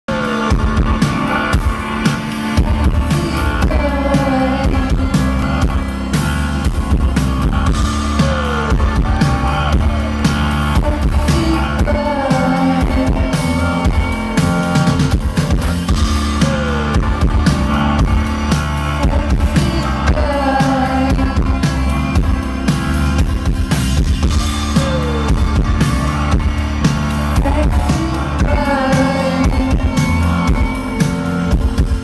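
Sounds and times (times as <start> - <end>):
live electronic pop band: 0.0 - 32.0.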